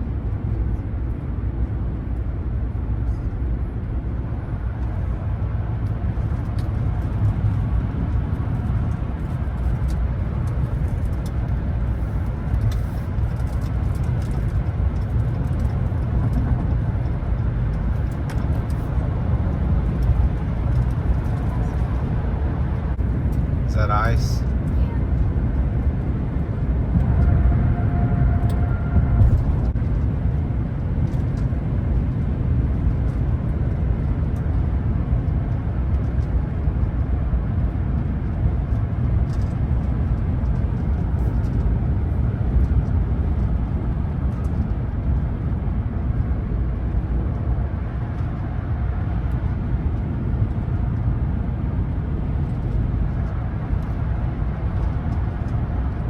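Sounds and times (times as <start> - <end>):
road and engine noise in cabin: 0.0 - 56.0.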